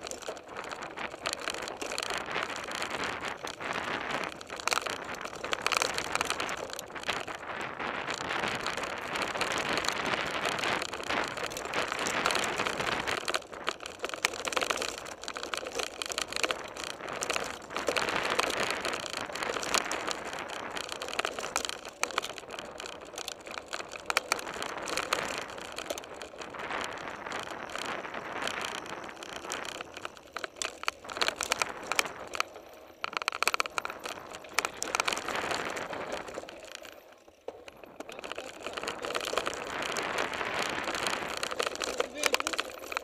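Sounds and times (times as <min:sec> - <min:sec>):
bike rattling over bumps: 0:00.0 - 0:43.0
tyres crunching on gravel: 0:00.0 - 0:43.0.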